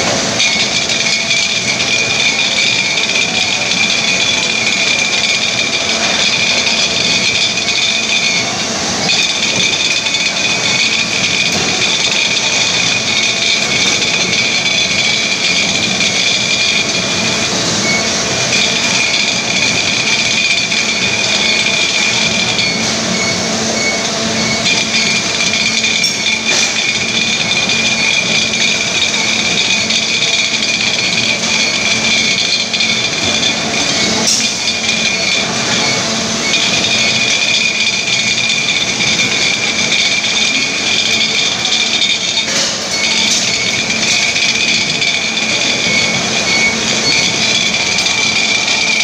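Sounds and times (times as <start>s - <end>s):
conveyor machinery running: 0.0s - 49.0s
high-pitched whine: 0.0s - 49.0s.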